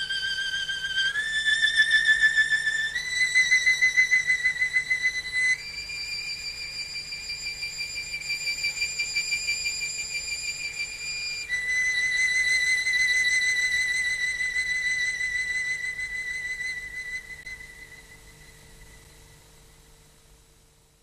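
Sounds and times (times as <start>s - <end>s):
solo violin long notes: 0.0s - 18.9s.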